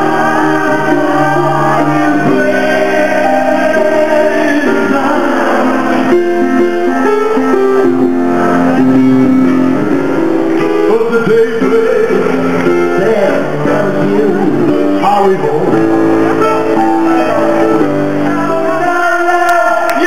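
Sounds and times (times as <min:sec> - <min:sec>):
person singing: 0:00.0 - 0:07.4, 0:10.6 - 0:20.0
live band music: 0:00.0 - 0:20.0.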